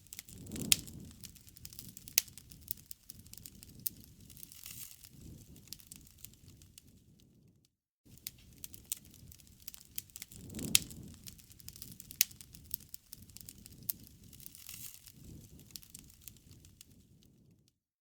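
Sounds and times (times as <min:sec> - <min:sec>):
campfire crackling: 0:00.0 - 0:07.2, 0:08.1 - 0:17.6
low flutter of flames: 0:00.0 - 0:17.7
sharp snaps and pops: 0:00.0 - 0:17.8.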